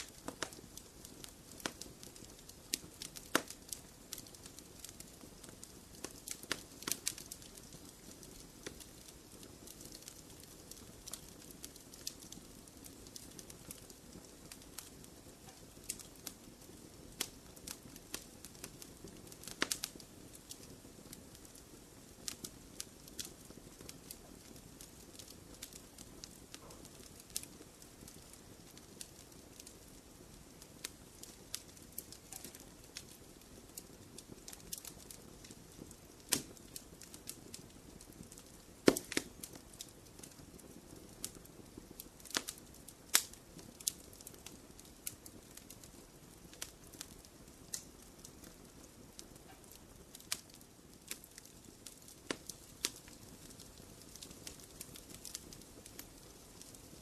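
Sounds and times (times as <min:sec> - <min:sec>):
fire crackling and popping: 0:00.0 - 0:57.0
wood fire hissing: 0:00.0 - 0:57.0.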